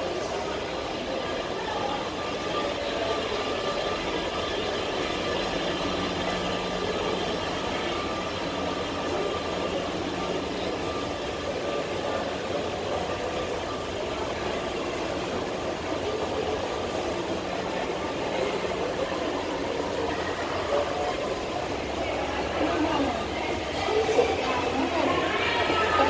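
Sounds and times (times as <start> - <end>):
escalator humming: 0.0 - 26.0
terminal hall background noise: 0.0 - 26.0.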